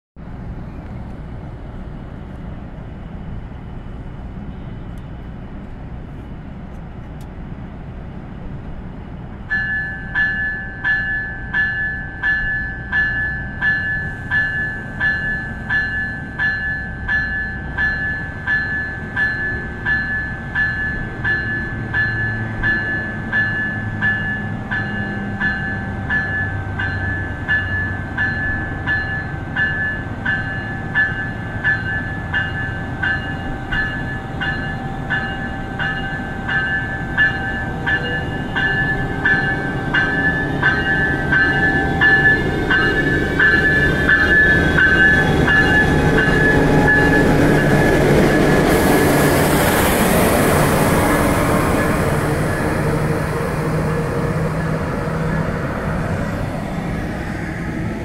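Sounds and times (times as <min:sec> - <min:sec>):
diesel locomotive engine rumbling: 0:00.2 - 0:58.0
locomotive bell ringing: 0:09.4 - 0:57.0.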